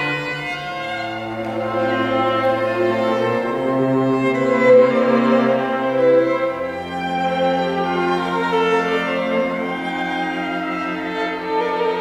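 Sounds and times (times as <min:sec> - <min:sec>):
cello holding low note: 0:00.0 - 0:12.0
string quartet bowed chords: 0:00.0 - 0:12.0.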